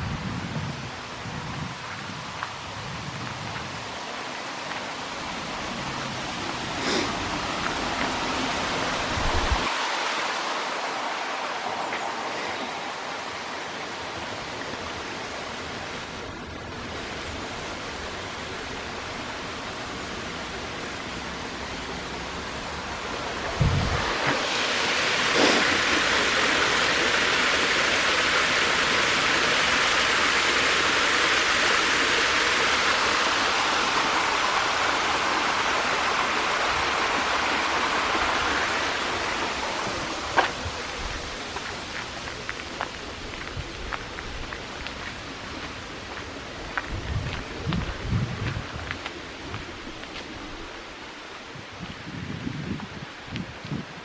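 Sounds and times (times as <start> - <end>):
stream splashing over stones: 3.3 - 51.4.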